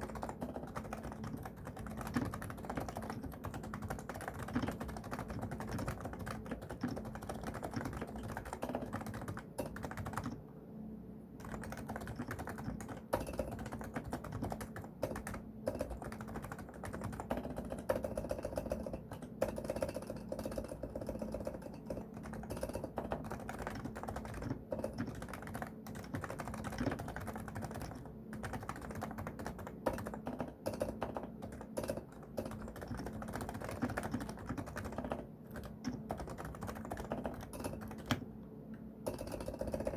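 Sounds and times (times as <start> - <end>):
muted keyboard typing: 0.0 - 10.4, 11.4 - 38.3, 39.0 - 39.9.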